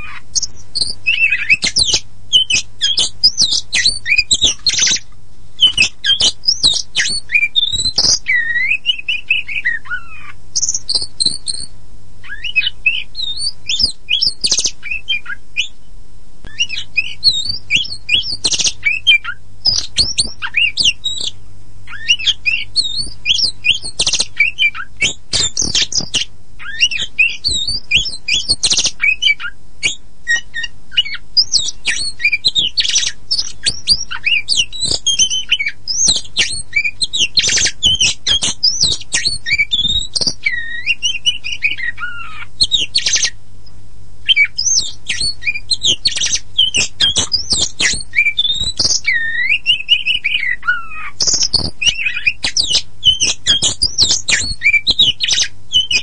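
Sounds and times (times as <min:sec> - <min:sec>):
songbird singing whistles and trills: 0:00.0 - 0:43.4, 0:44.2 - 0:56.0.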